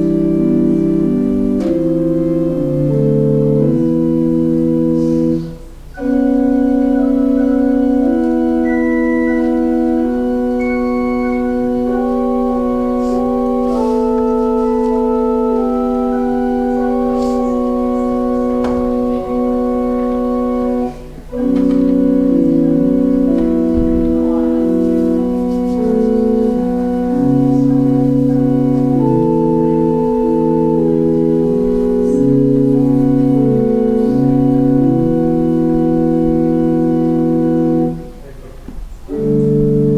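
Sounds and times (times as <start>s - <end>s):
organ playing sustained chords: 0.0s - 39.9s.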